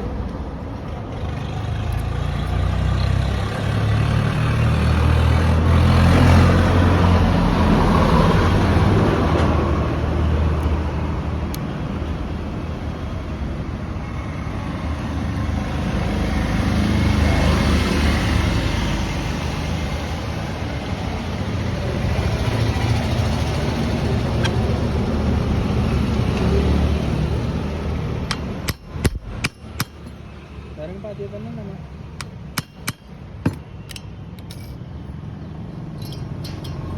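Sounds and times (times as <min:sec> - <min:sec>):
vehicle engine rumbling: 0:00.0 - 0:15.1, 0:20.4 - 0:36.9.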